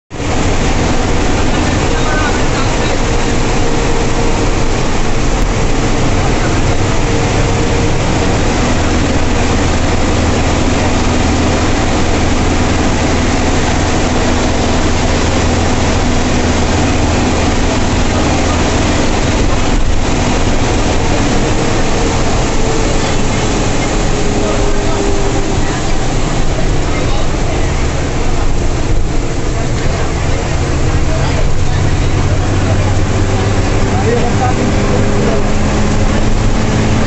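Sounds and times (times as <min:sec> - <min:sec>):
bus engine droning: 0:00.1 - 0:37.0
road noise rushing: 0:00.1 - 0:37.0.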